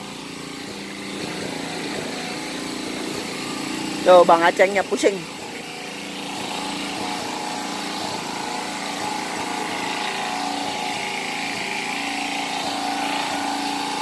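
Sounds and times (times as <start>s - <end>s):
engine-driven water pump running: 0.0s - 14.0s.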